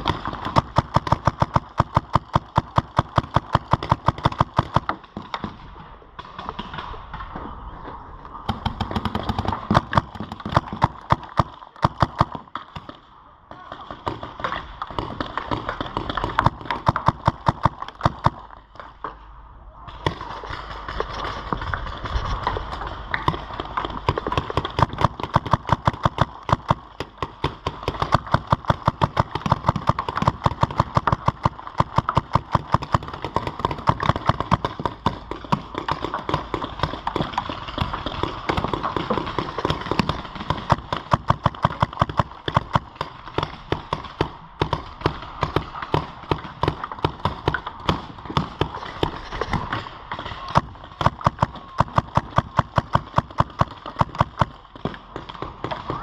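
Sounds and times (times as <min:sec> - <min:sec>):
paintball markers firing: 0:00.0 - 0:05.6, 0:08.5 - 0:13.0, 0:13.8 - 0:19.0, 0:22.5 - 0:56.0.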